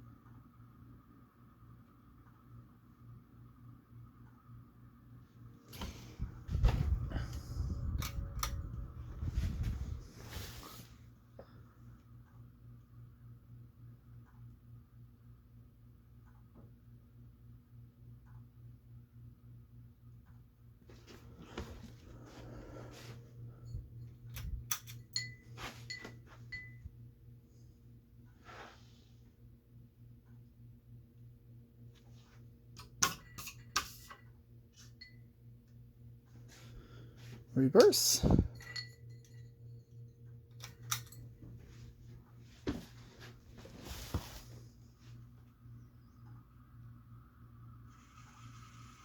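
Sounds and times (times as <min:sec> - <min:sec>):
ceiling fan motor humming: 0:00.0 - 0:49.0.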